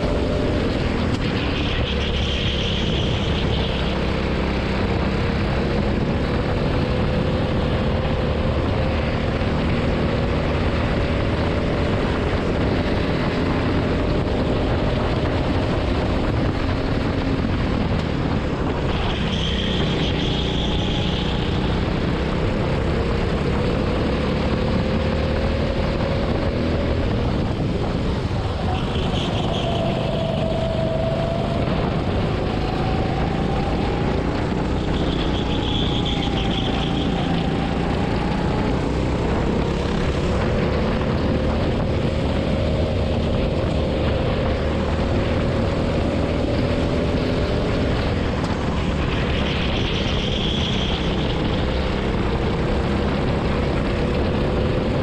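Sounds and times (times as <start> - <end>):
kart engine at speed: 0.0 - 55.0.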